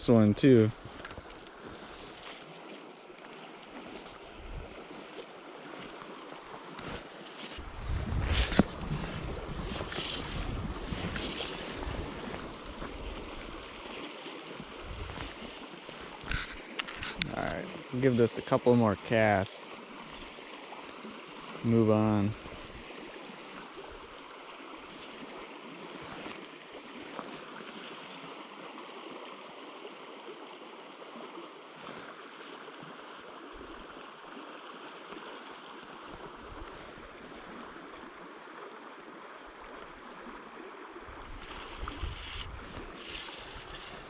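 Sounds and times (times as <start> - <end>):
flowing river water: 0.0 - 44.0.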